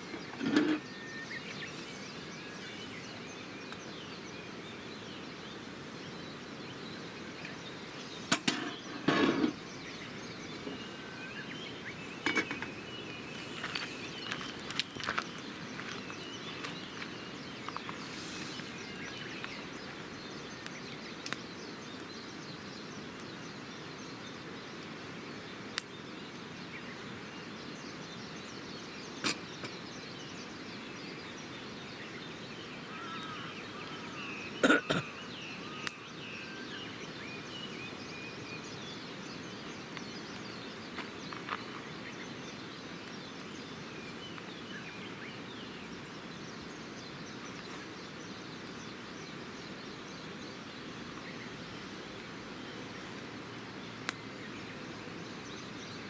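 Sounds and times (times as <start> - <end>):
faint bird chirps: 0.0 - 24.9, 25.8 - 56.0
campfire hissing and popping: 0.0 - 56.0.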